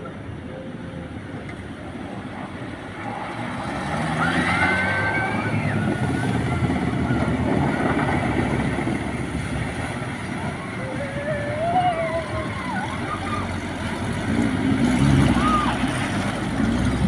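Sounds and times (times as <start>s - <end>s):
jeep engine running: 0.0s - 17.0s.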